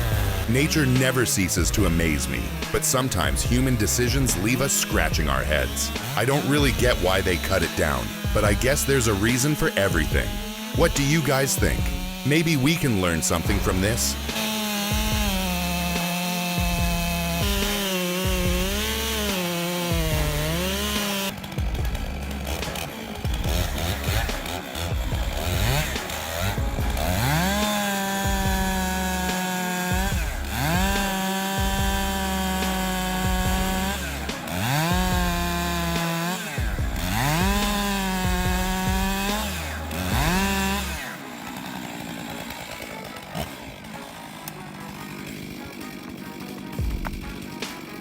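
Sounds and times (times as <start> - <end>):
chainsaw revving: 0.0 - 48.0.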